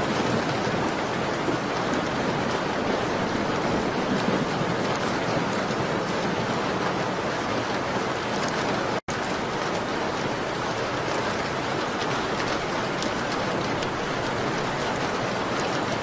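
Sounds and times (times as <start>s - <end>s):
rain on a window: 0.0s - 16.0s.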